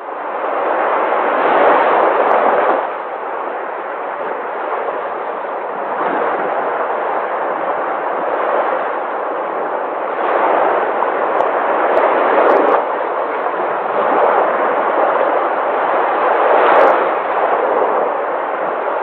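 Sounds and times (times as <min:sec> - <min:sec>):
sea waves washing in: 0:00.0 - 0:19.0.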